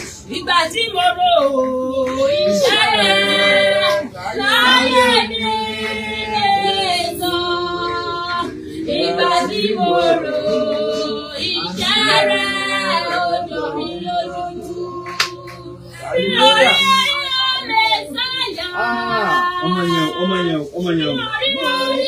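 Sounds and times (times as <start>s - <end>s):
women singing unaccompanied: 0.3s - 22.0s.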